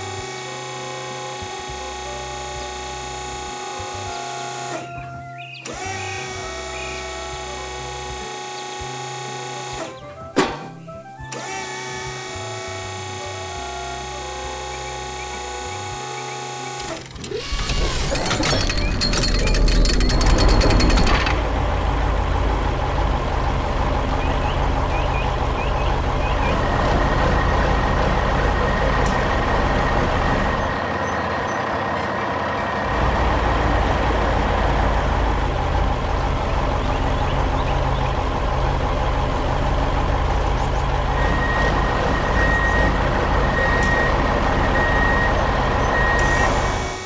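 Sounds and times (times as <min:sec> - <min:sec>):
heavy truck engine running: 0:00.0 - 0:47.0.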